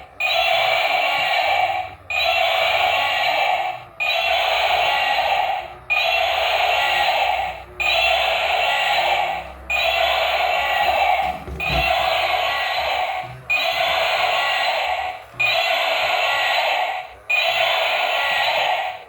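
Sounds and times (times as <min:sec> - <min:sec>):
buzzy toy sound effect: 0:00.2 - 0:19.0.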